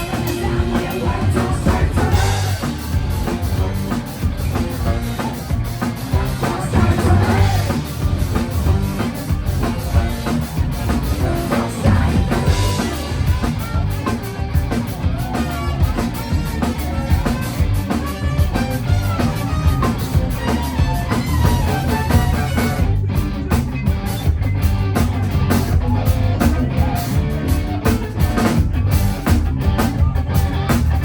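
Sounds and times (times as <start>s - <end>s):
drum kit: 0.0s - 31.0s
guitar: 0.0s - 31.0s
live rock band playing: 0.0s - 31.0s.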